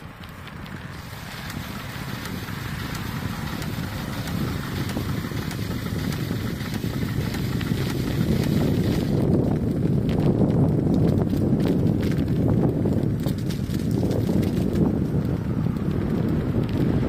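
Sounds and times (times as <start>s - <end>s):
faint ticks and rattles: 0.0s - 16.9s
wind rumbling on microphone: 0.0s - 17.0s.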